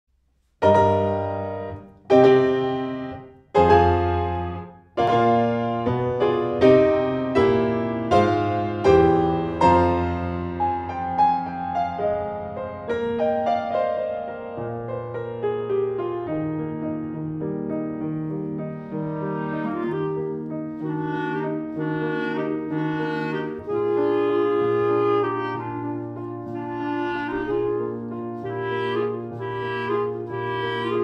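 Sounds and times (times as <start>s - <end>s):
piano playing slow chords: 0.6s - 31.0s.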